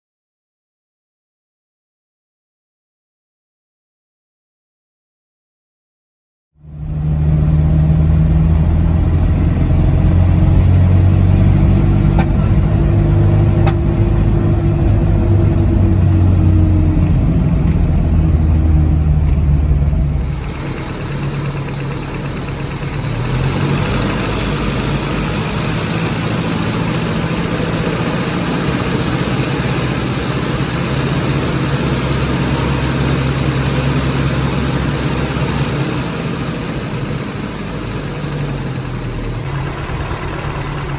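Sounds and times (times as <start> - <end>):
car engine running: 6.6 - 40.9.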